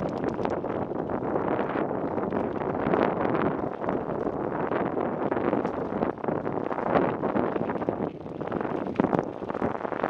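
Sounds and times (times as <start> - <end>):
bike rattling: 0.0 - 10.0
wind buffeting microphone: 0.0 - 10.0.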